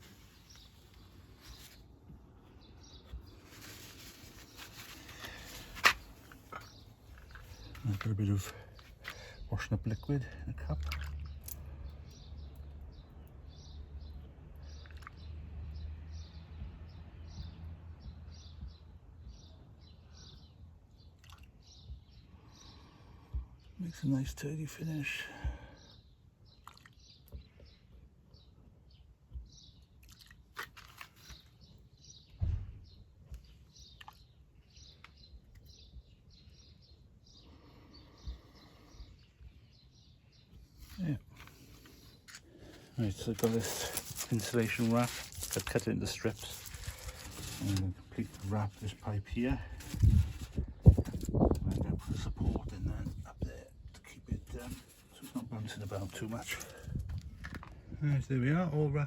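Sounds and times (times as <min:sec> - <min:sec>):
faint birds chirping: 0:00.0 - 0:59.0.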